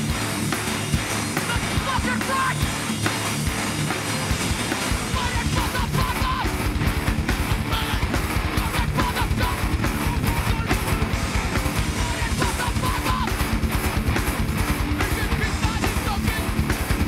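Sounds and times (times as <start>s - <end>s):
fast kick-drum pulse: 0.0s - 17.0s
hardcore band playing live: 0.0s - 17.0s.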